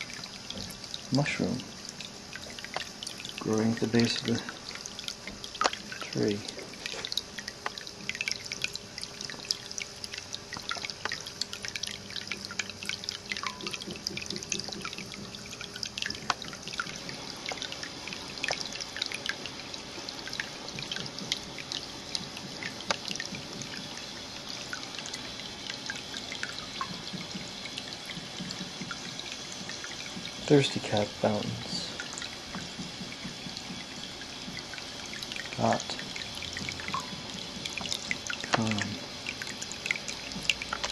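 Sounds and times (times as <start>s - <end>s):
water trickling in fountain: 0.0s - 40.9s.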